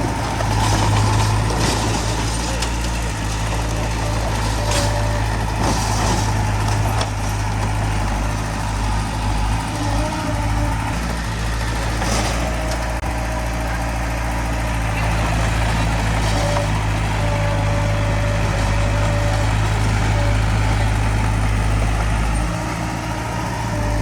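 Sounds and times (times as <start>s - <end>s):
diesel engine low hum: 0.0s - 24.0s.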